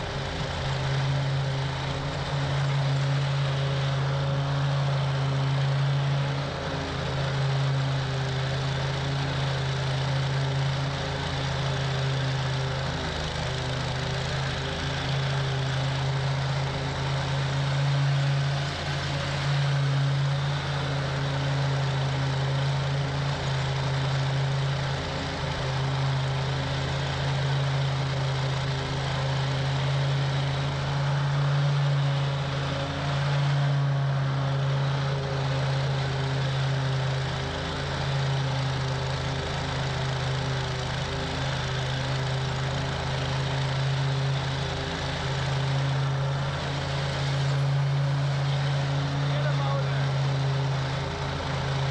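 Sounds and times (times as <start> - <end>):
mower engine humming: 0.0 - 51.9.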